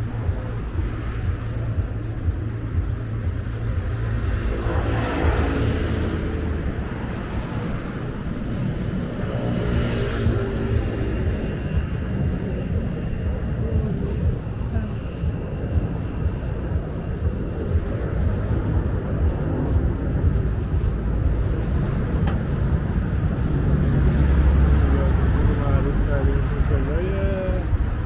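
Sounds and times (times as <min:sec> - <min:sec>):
low traffic rumble: 0:00.0 - 0:28.0
vehicles passing: 0:00.0 - 0:28.0.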